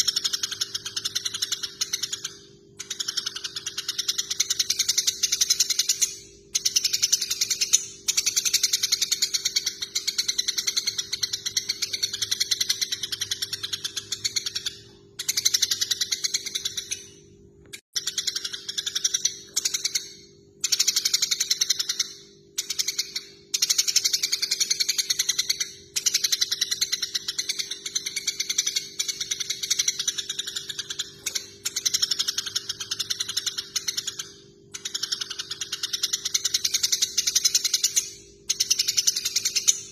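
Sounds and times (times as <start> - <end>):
sparrows chirping: 0.0 - 17.2, 18.0 - 39.9.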